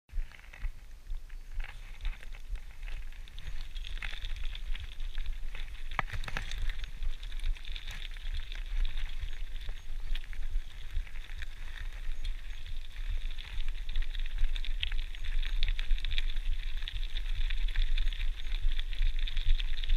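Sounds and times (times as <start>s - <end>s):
bike tyres crunching on gravel: 0.1s - 19.9s.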